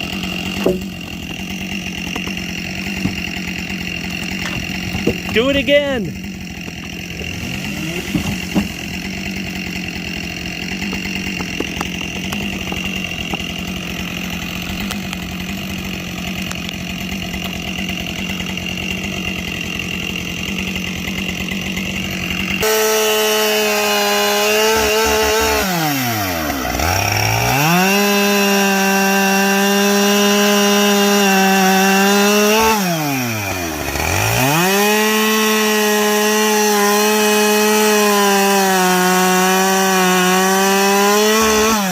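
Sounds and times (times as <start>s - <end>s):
chainsaw running at high revs: 0.0s - 41.9s.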